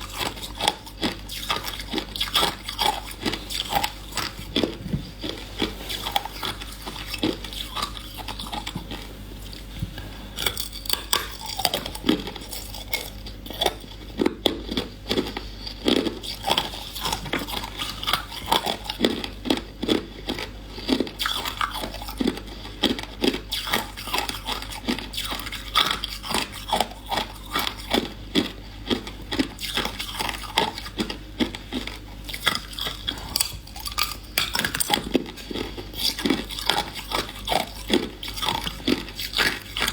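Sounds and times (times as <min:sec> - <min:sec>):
person chewing ice cubes: 0:00.0 - 0:39.9.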